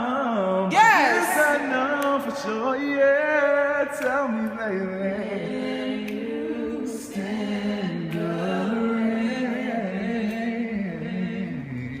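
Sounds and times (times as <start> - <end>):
a cappella group singing: 0.0 - 12.0
wavering higher vocal line: 0.0 - 12.0.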